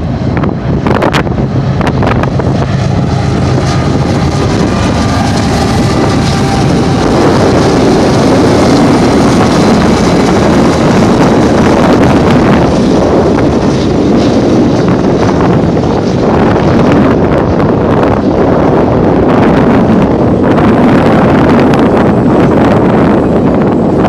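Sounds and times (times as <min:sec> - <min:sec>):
diesel locomotives passing: 0:00.0 - 0:24.0
steel wheels rushing on rail: 0:00.0 - 0:24.0
wind buffeting microphone: 0:00.0 - 0:24.0.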